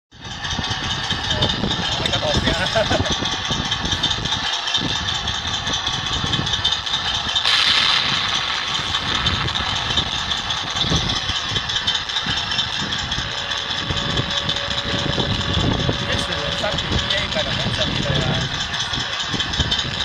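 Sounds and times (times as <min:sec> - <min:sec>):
tank engine idling through speaker: 0:00.1 - 0:20.0.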